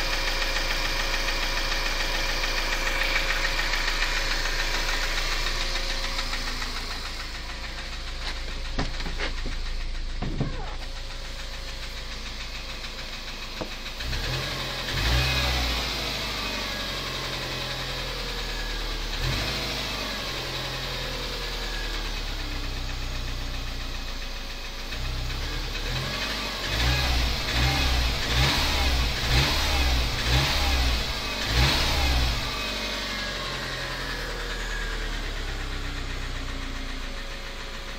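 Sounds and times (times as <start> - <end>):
car engine running: 0.0 - 37.9
engine knock: 0.0 - 37.9
engine revving: 0.0 - 37.9.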